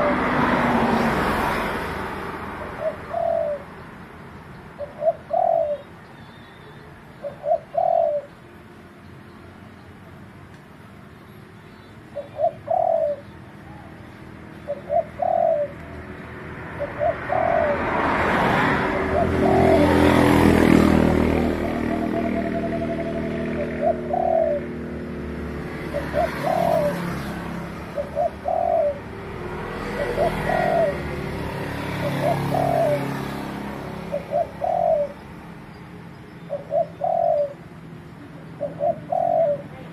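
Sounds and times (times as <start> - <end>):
dove cooing: 0.0 - 1.1, 2.6 - 3.8, 4.7 - 8.4, 12.1 - 35.7, 36.4 - 39.9
broad background noise: 0.0 - 39.9.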